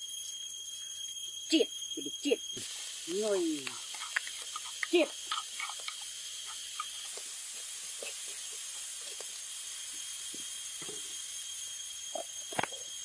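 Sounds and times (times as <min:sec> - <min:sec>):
chili paste sizzling in oil: 0:00.0 - 0:13.0.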